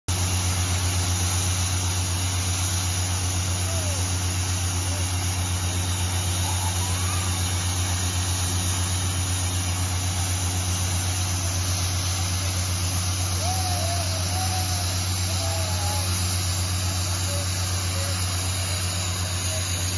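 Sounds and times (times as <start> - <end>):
diesel air compressor running: 0.1 - 19.9.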